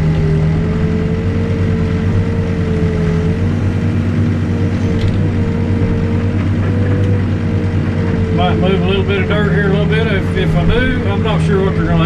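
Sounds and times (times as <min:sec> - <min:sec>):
diesel engine droning: 0:00.0 - 0:12.0
high whine: 0:00.3 - 0:11.9.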